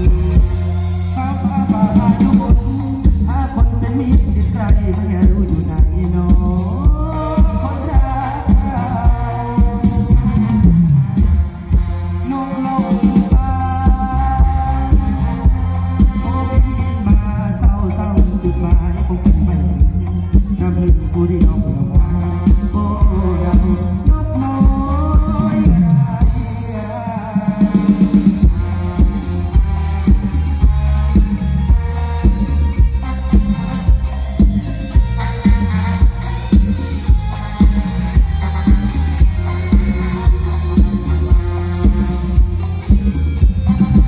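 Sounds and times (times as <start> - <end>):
person singing: 0.0 - 11.1, 11.7 - 44.0
heavy bass: 0.0 - 44.0
steady drum beat: 0.0 - 44.0.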